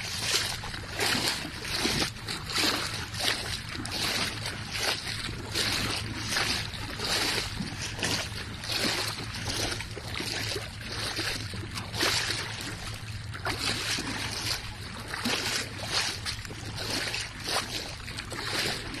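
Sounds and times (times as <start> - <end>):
seawater sloshing and splashing: 0.0 - 19.0
steady low hum: 0.0 - 19.0.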